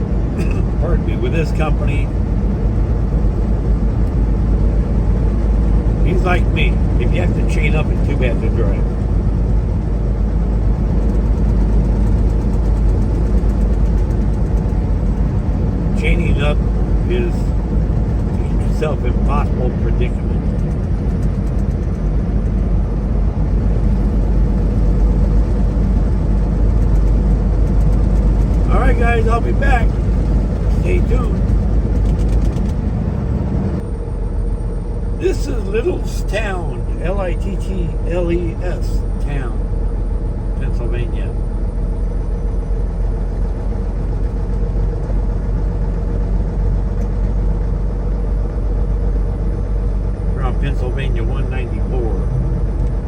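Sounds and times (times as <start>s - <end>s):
road noise inside cab: 0.0s - 53.0s
truck engine rumble: 0.0s - 53.0s.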